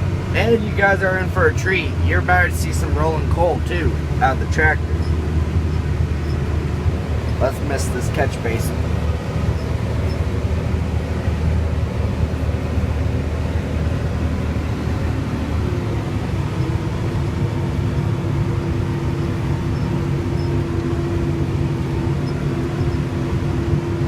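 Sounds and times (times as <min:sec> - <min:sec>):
tractor diesel engine running: 0:00.0 - 0:24.0
steady higher-pitched whine: 0:00.1 - 0:24.0.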